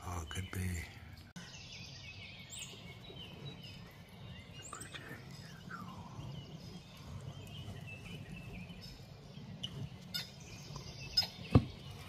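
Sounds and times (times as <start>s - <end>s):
birds chirping: 0.0s - 12.0s
low background rumble: 0.0s - 12.0s.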